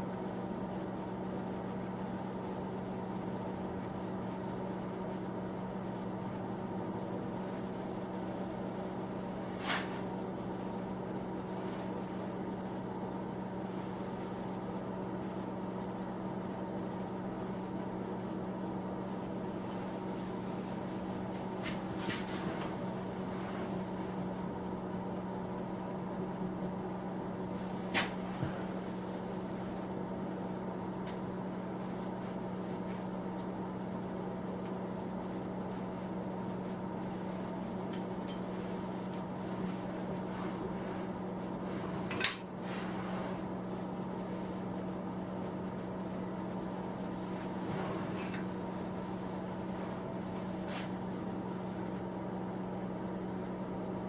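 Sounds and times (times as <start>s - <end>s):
space heater humming: 0.0s - 54.0s.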